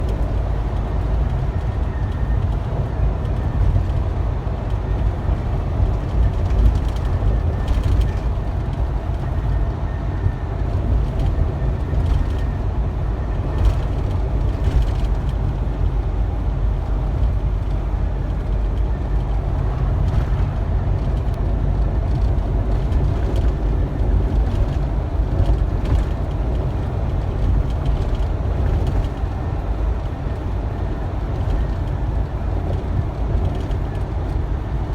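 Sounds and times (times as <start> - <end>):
truck engine and road rumble: 0.0 - 34.9.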